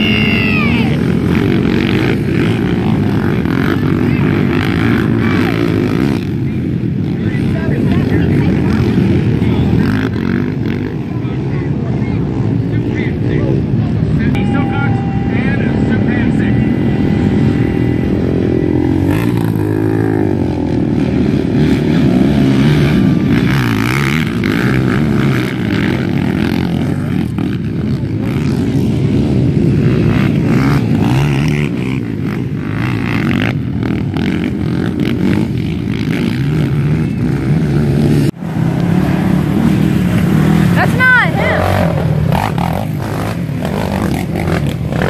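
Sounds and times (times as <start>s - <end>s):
quad engines revving: 0.0s - 45.0s.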